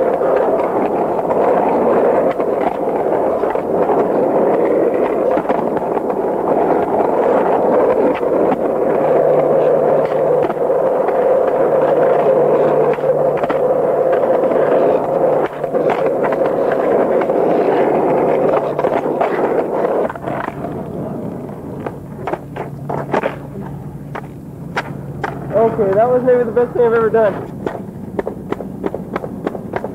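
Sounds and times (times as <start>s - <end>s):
skateboard clicks: 0.0s - 29.9s
skateboard wheels rolling on asphalt: 0.0s - 29.9s.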